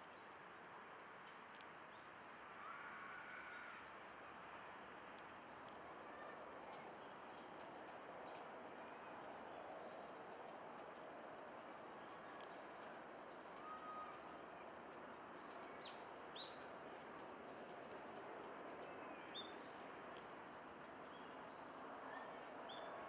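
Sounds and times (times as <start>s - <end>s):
low outdoor hiss: 0.0s - 23.0s.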